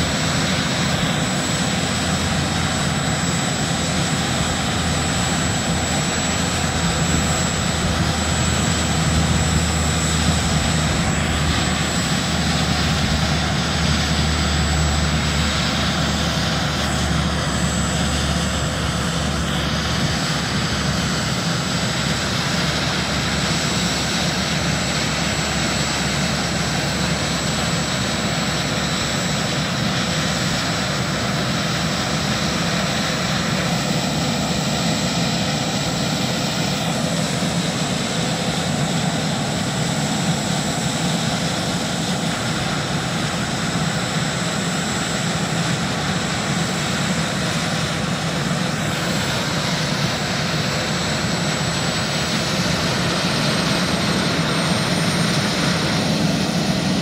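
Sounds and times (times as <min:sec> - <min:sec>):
helicopter turbine whine and rumble: 0:00.0 - 0:57.0.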